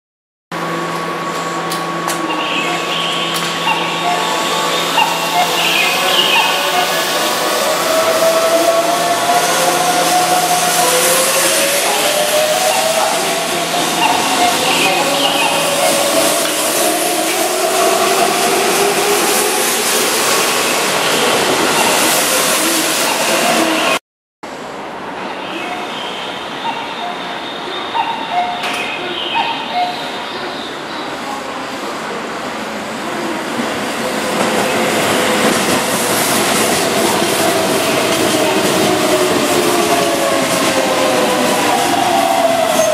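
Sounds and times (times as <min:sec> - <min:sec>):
train wheels on rails: 0:00.6 - 0:24.0, 0:28.0 - 0:42.9.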